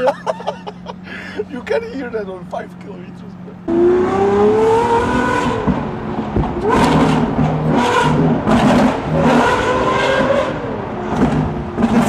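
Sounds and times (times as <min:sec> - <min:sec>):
exhaust bangs: 0:00.0 - 0:12.0
sports car engine revving: 0:00.2 - 0:12.0.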